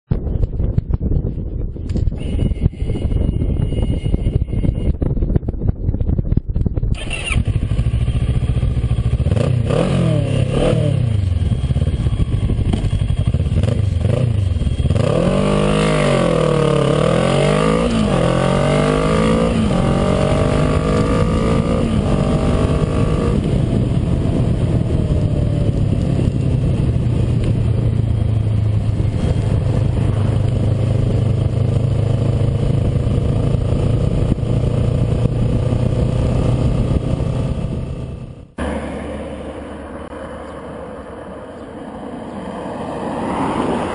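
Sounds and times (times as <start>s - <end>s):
motorcycle engine revving: 0.8s - 40.1s.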